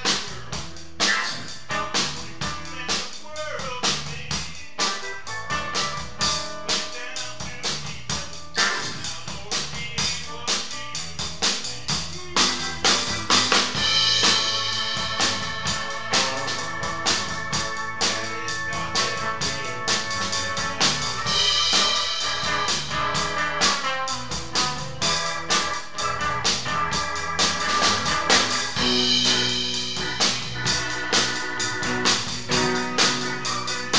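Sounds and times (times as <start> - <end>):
drum kit beat: 0.0 - 33.9
keyboard chords: 0.0 - 33.9.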